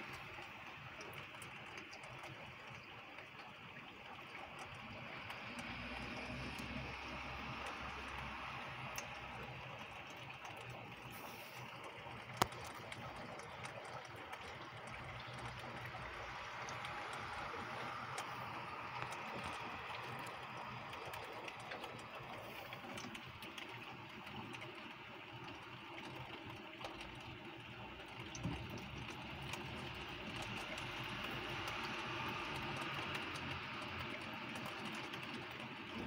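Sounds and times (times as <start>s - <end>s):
raindrops ticking close by: 0.0s - 36.0s.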